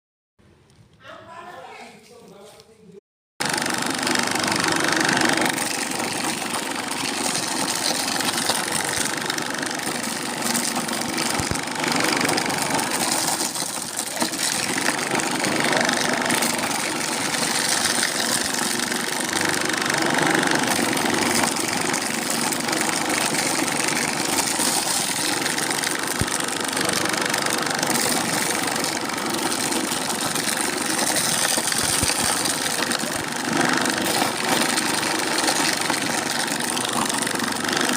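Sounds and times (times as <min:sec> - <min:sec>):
grinding mill running: 0:03.4 - 0:37.9.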